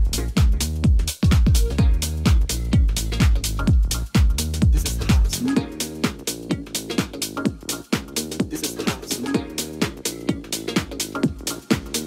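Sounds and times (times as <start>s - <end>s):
electronic dance music: 0.0s - 12.0s
kick drum beat: 0.0s - 12.0s.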